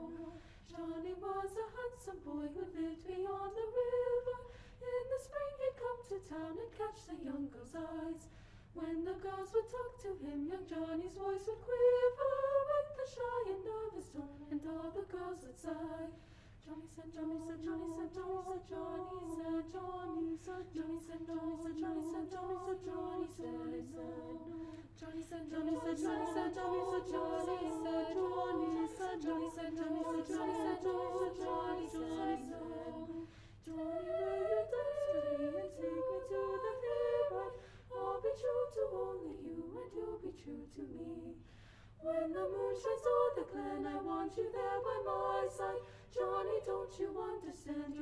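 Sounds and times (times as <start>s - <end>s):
girls choir singing a cappella: 0.0s - 48.0s.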